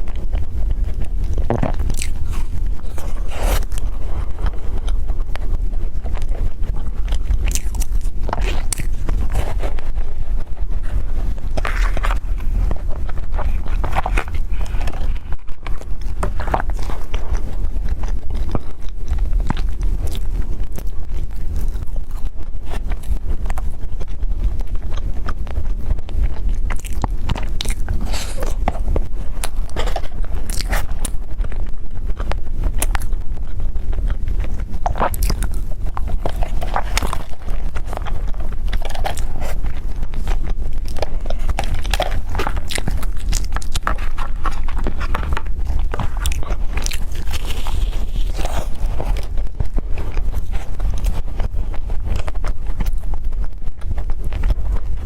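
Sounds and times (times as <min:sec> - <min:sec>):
close-miked chewing and crunching: 0:00.0 - 0:55.0
steady low hum: 0:00.0 - 0:55.0.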